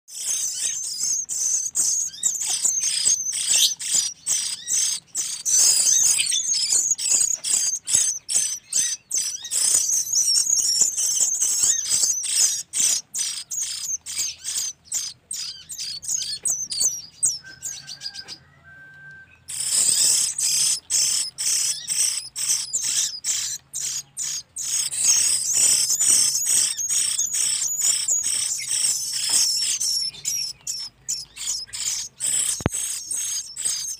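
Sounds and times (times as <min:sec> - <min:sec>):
nestlings chirping for food: 0:00.1 - 0:33.9.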